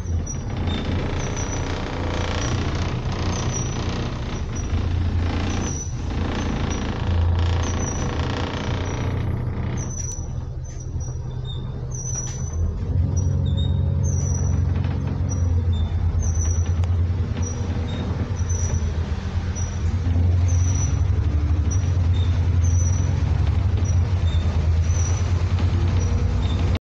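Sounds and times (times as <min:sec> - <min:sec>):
bus diesel engine under load: 0:00.0 - 0:26.8.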